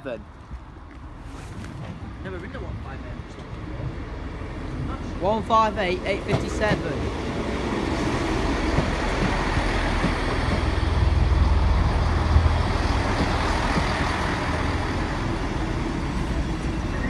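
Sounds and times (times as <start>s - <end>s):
train engine drone and rumble: 0.0s - 17.0s.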